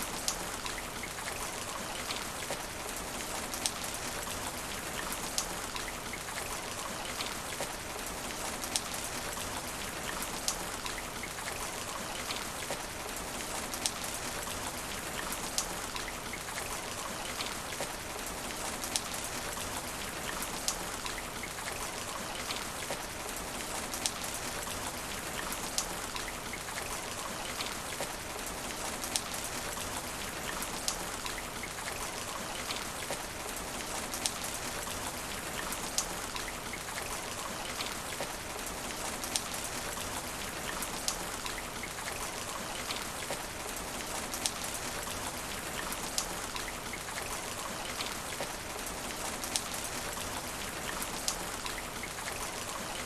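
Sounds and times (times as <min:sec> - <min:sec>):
rain falling on asphalt: 0:00.0 - 0:53.0
raindrops ticking close by: 0:00.0 - 0:53.0.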